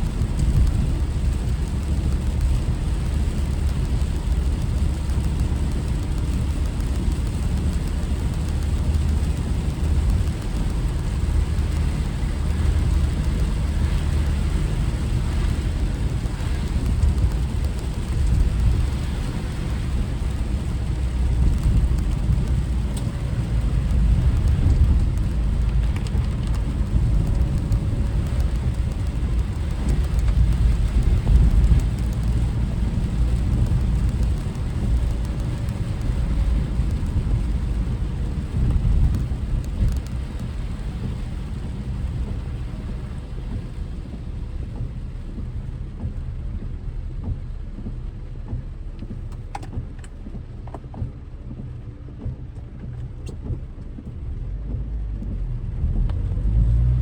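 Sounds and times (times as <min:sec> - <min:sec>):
rain hissing on car: 0:00.0 - 0:57.0
road and tyre rumble: 0:00.0 - 0:57.0.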